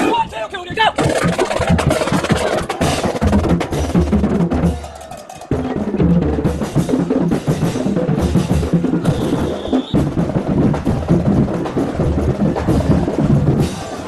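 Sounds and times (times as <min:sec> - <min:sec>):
snare and bass drums playing: 0:00.8 - 0:14.0.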